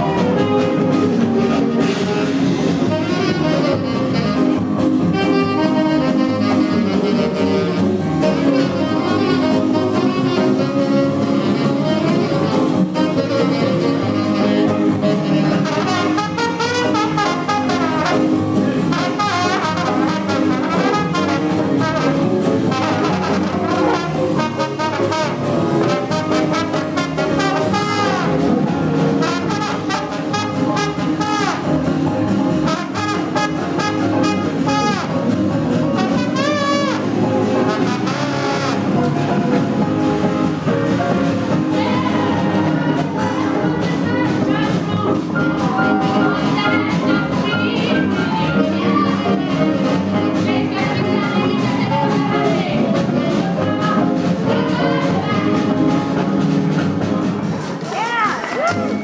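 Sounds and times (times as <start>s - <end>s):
brass horn lead line: 0.0s - 57.3s
swing jazz band playing: 0.0s - 59.0s.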